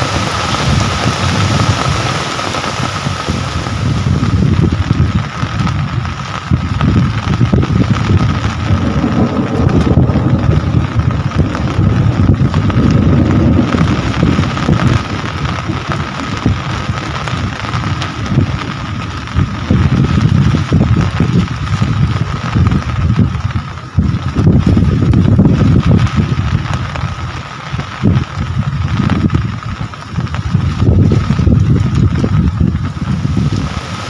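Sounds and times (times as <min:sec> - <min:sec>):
rain falling: 0:00.0 - 0:34.0
wind buffeting microphone: 0:00.0 - 0:34.0.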